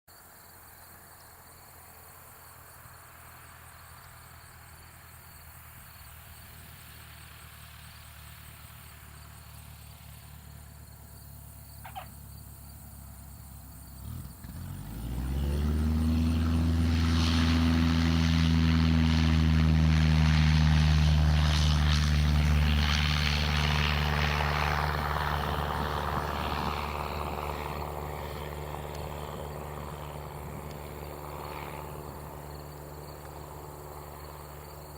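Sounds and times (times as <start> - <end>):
propeller plane engine: 0.6 - 34.9.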